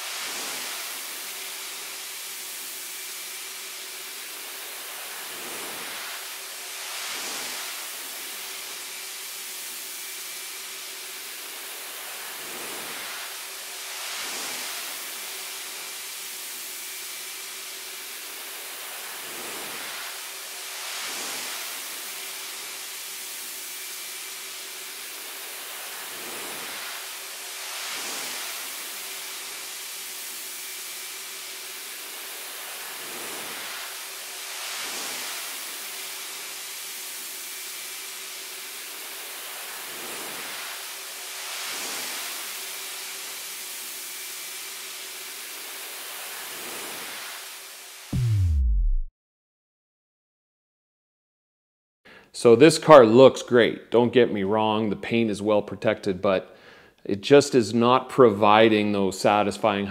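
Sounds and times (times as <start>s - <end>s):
pulsing hiss: 0.0s - 48.8s.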